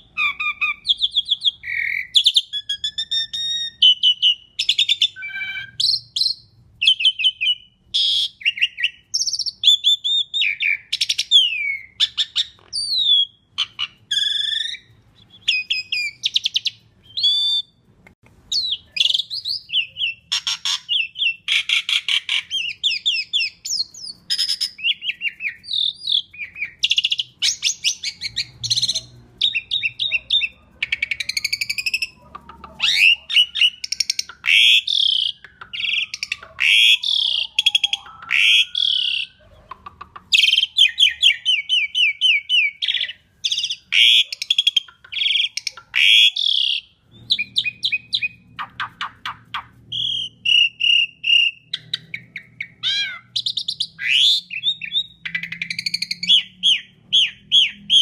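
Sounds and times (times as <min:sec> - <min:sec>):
bird whistling and chattering: 0:00.0 - 0:17.8, 0:18.5 - 0:58.0.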